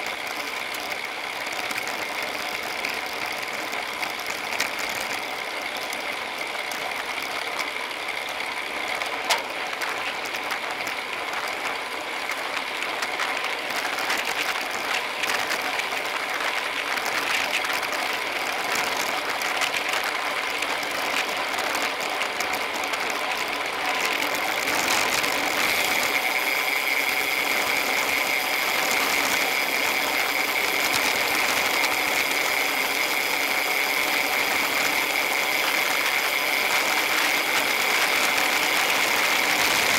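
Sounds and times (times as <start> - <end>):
bicycle freehubs buzzing: 0.0 - 39.9
wind: 0.0 - 39.9.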